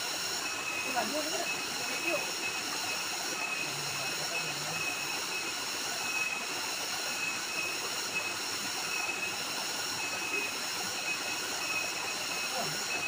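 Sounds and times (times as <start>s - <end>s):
forest insects shrilling: 0.0s - 13.0s
waterfall pouring into pool: 0.0s - 13.0s.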